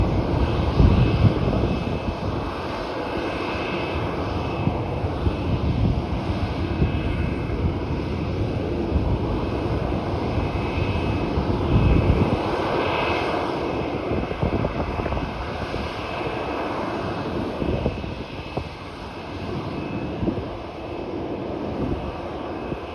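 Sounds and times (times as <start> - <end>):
jet engines rumbling: 0.0 - 22.9.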